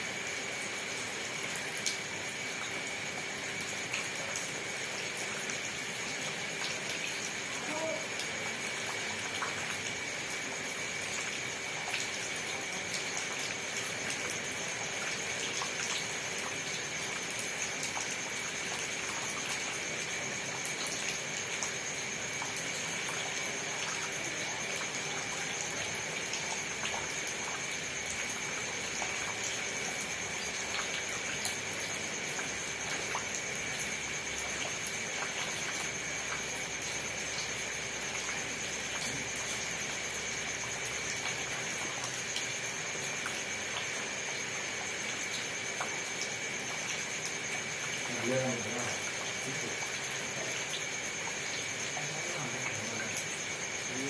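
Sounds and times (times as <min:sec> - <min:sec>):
steady rain hiss: 0:00.0 - 0:54.0
raindrops ticking: 0:00.9 - 0:50.0.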